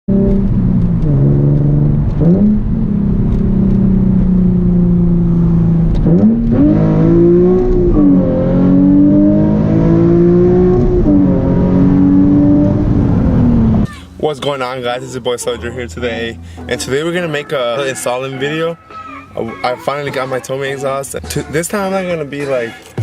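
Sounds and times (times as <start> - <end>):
car engine revving: 0.1 - 22.4.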